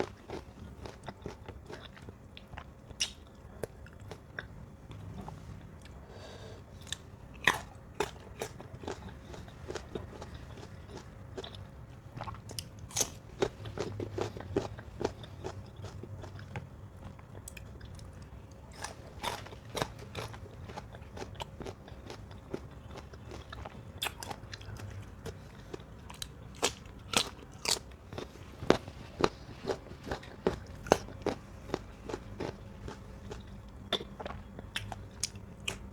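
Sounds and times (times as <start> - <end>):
crunching and chewing: 0.0 - 35.9.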